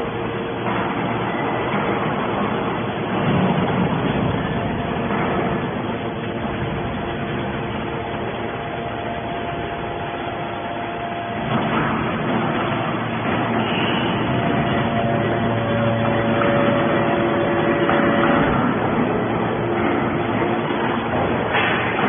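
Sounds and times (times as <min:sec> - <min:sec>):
hydraulic baler machine hum: 0:00.0 - 0:22.0
hydraulic pump whining: 0:00.0 - 0:22.0.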